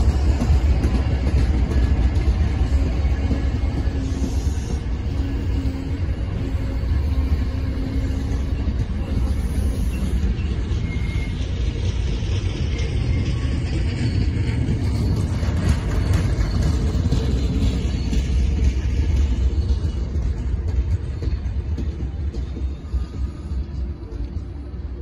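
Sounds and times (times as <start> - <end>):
train rolling with low rumble: 0.0 - 25.0.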